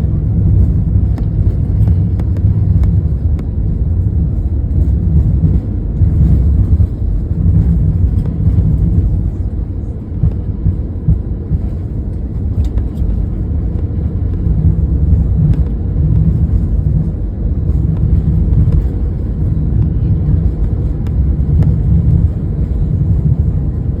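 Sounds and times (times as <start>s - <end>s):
airliner cabin low rumble: 0.0s - 24.0s.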